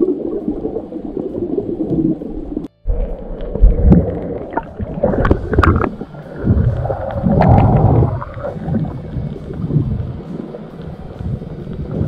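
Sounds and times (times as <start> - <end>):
underwater sloshing and bubbling: 0.0 - 12.0.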